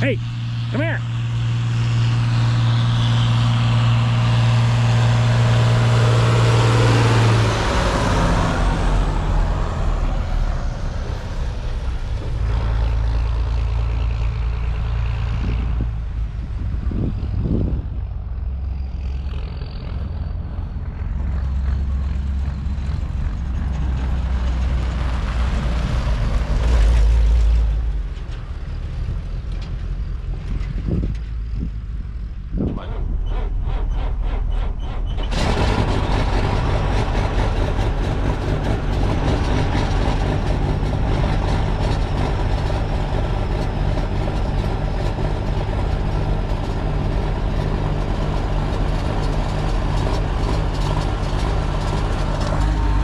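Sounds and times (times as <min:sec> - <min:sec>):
large vehicle engine rumbling: 0:00.0 - 0:53.0.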